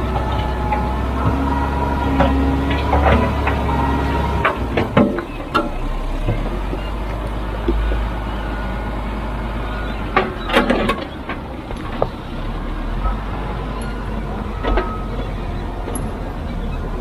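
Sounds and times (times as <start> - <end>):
heavy machinery diesel rumble: 0.0 - 17.0.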